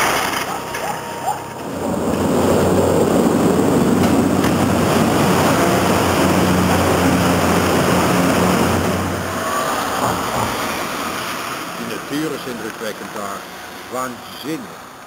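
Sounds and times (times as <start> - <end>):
gondola lift machinery humming: 0.0 - 15.0.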